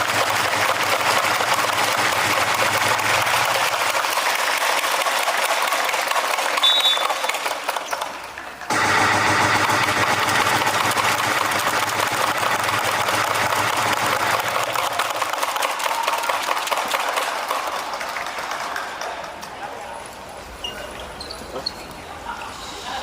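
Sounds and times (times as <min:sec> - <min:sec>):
hubbub of arena crowd: 0:00.0 - 0:23.0.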